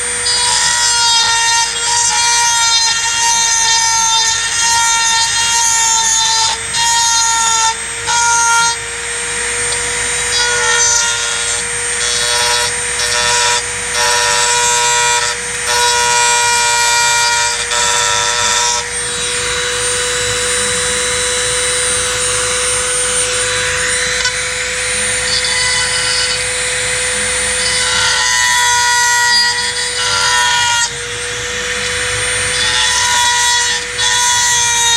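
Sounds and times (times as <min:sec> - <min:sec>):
bit grinding and grating material: 0:00.0 - 0:34.9
rotary tool high whine: 0:00.0 - 0:34.9.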